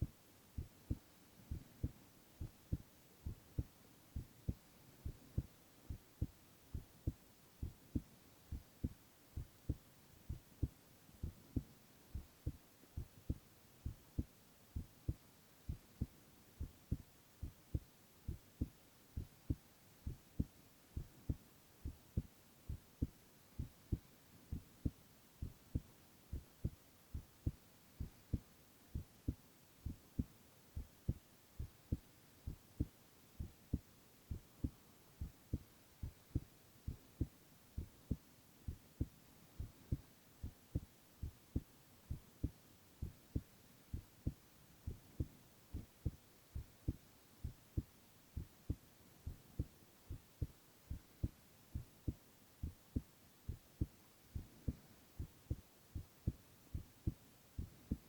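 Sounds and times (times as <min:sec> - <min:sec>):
heartbeat thumps: 0:00.0 - 0:58.0.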